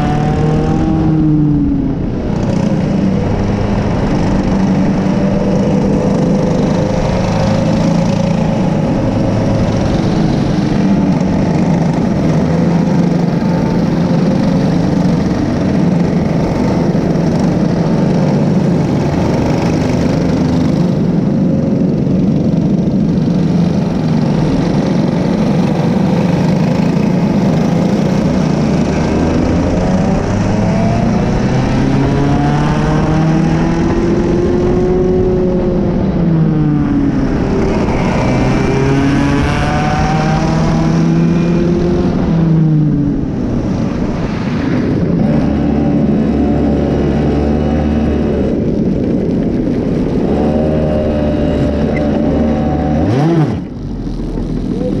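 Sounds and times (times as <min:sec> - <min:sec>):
kart engines racing: 0:00.0 - 0:55.0
steady rushing noise: 0:00.0 - 0:55.0.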